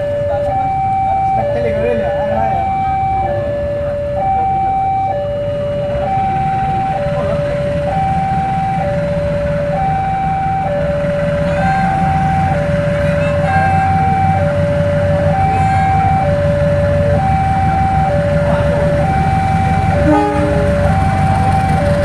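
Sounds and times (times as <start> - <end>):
two-tone electronic warning alarm: 0.0 - 22.0
low mechanical rumble: 2.5 - 22.0.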